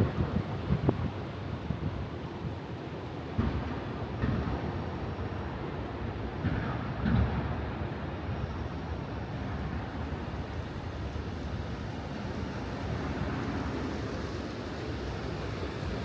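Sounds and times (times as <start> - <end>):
traffic rumble and hiss: 0.0 - 16.0.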